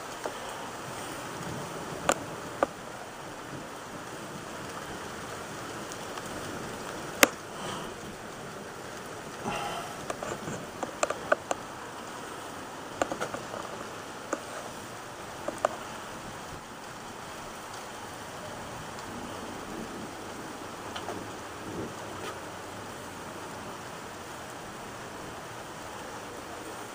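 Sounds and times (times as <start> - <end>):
rain hiss: 0.0 - 26.9.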